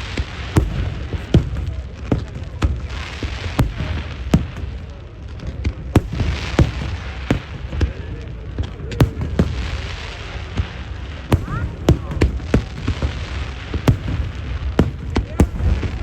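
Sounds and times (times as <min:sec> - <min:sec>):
fireworks bangs: 0:00.0 - 0:16.0
fireworks crackling hiss: 0:00.0 - 0:16.0.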